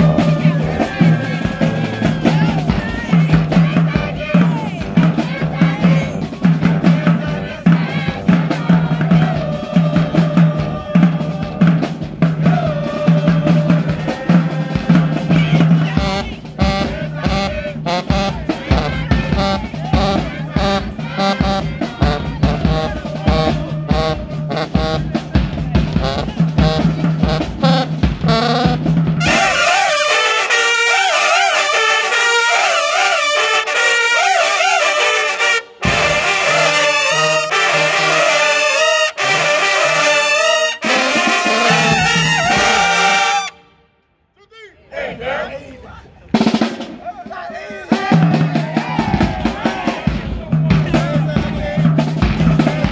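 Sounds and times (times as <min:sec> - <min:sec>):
marching band drums: 0:00.0 - 0:43.6, 0:46.3 - 0:52.9
marching band horns: 0:00.0 - 0:52.9.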